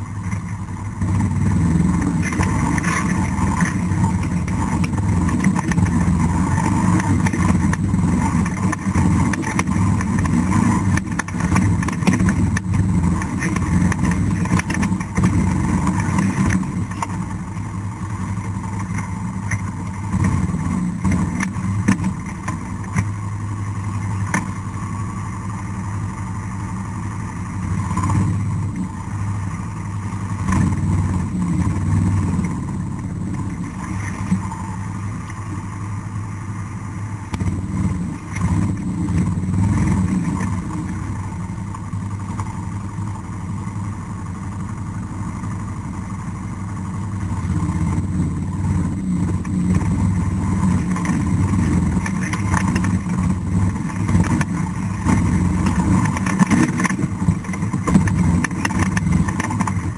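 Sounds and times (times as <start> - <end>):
quad bike engine revving: 0.0 - 26.7, 27.6 - 59.9.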